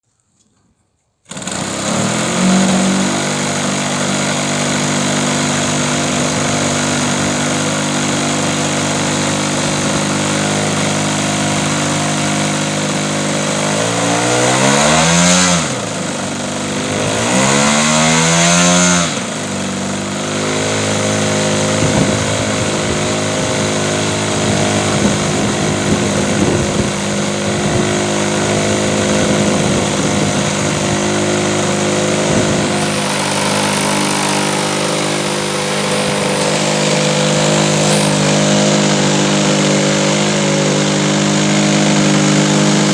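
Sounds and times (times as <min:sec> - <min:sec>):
small gasoline engine revving: 0:01.3 - 0:42.9.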